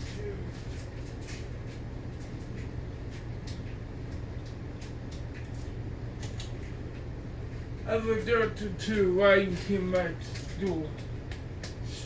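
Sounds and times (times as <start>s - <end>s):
ceiling fan running: 0.0s - 12.0s.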